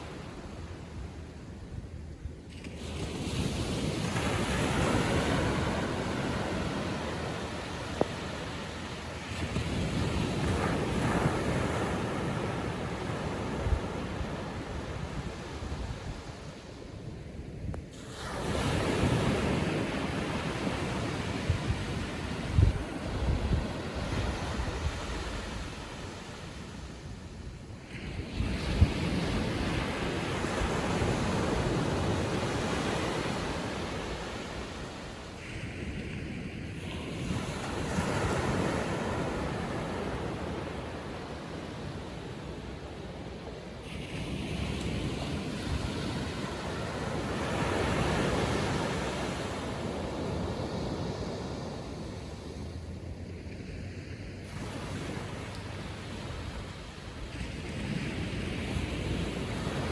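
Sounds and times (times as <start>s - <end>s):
waves breaking on beach: 0.0s - 1.7s, 2.4s - 59.9s
wind buffeting microphone: 0.0s - 59.9s.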